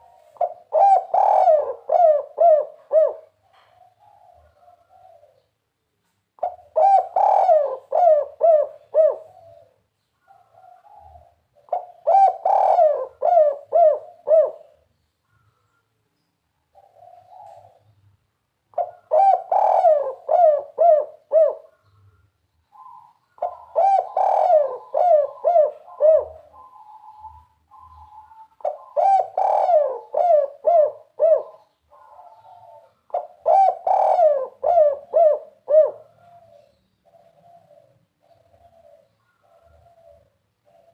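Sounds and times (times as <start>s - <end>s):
dove cooing: 0.0s - 5.5s, 6.4s - 15.6s, 16.7s - 18.0s, 18.7s - 40.9s.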